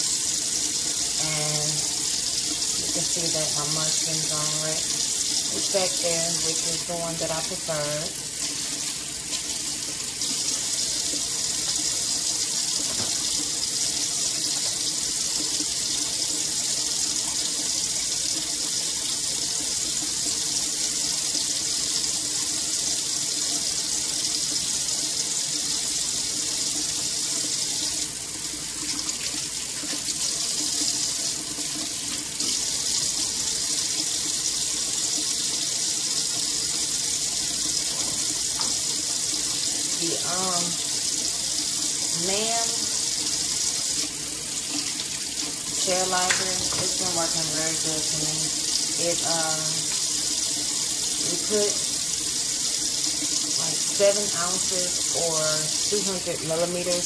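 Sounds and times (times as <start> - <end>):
faucet running into metal sink: 0.0 - 57.0.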